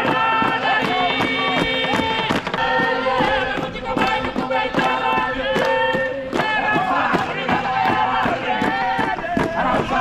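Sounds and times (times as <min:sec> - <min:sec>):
group of voices singing: 0:00.0 - 0:10.0.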